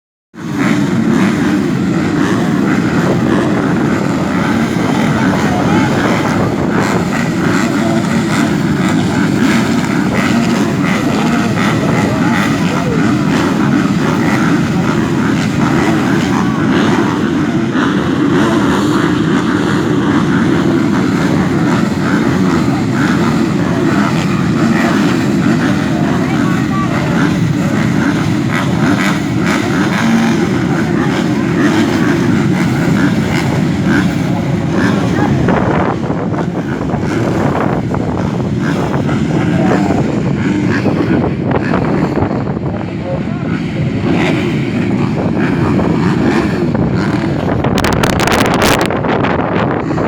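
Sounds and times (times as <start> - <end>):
motocross bikes engine drone: 0.4 - 50.0
wind buffeting microphone: 0.4 - 50.0.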